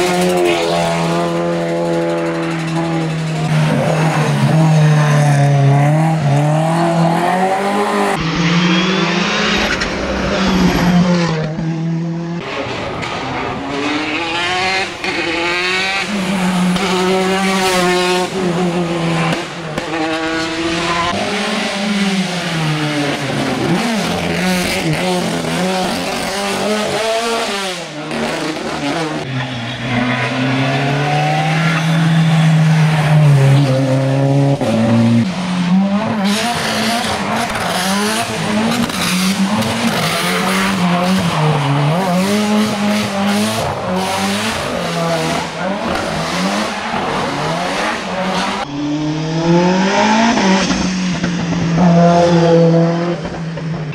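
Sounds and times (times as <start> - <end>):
racing car engines revving: 0.0 - 53.9.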